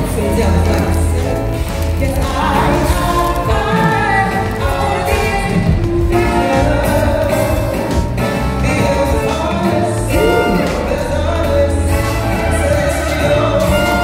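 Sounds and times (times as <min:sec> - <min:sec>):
low bass line: 0:00.0 - 0:14.0
show music with singing: 0:00.0 - 0:14.0.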